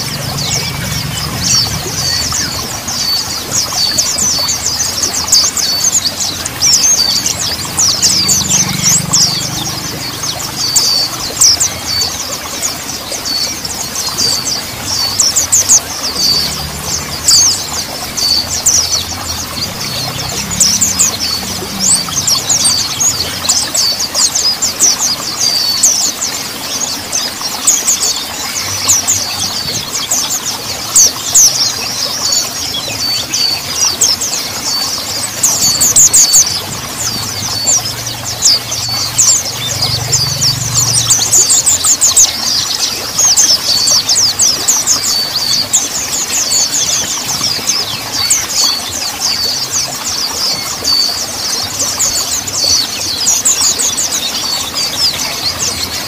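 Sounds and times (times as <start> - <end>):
bird song rapid high chirps: 0.0 - 56.0.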